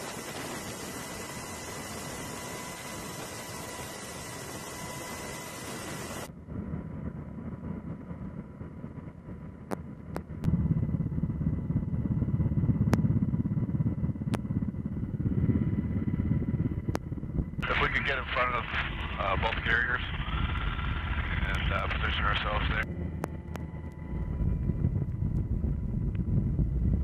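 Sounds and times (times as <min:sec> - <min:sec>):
aircraft engine rumble: 0:00.0 - 0:27.0.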